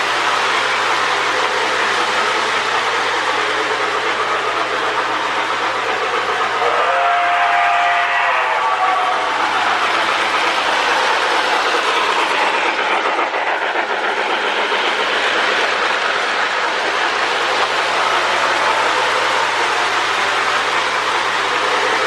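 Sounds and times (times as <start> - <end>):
model train clattering on track: 0.0 - 22.0.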